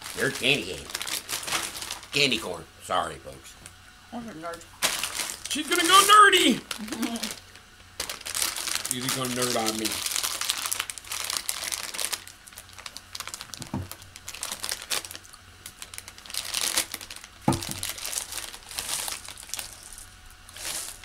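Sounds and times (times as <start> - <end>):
plastic wrapper crinkling: 0.0 - 2.2, 4.8 - 21.0.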